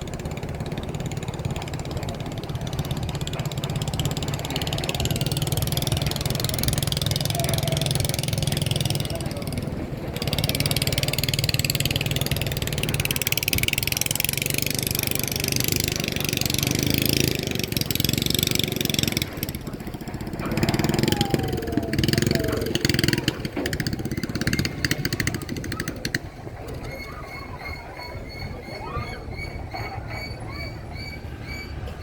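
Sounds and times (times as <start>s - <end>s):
vehicle engine running: 0.0s - 27.2s
voices: 0.0s - 32.0s.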